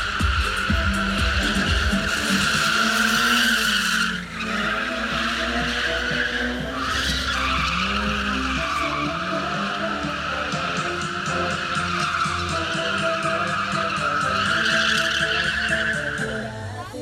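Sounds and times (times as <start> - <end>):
car engine revving hard: 0.0 - 16.8
tyres squealing: 0.0 - 17.0.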